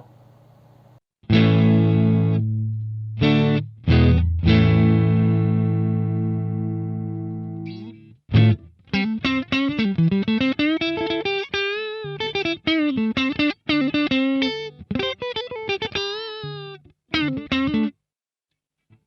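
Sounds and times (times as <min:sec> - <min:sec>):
clean electric guitar melody: 0:01.2 - 0:18.0.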